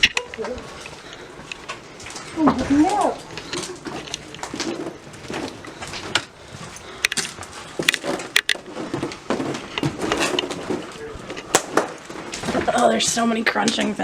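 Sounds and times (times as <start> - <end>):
footsteps crunching over debris: 0.0 - 14.0.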